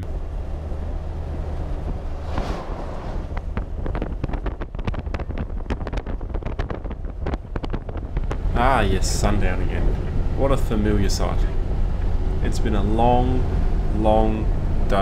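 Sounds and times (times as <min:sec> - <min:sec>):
vehicle low rumble: 0:00.0 - 0:15.0
wind buffeting microphone: 0:01.4 - 0:13.9.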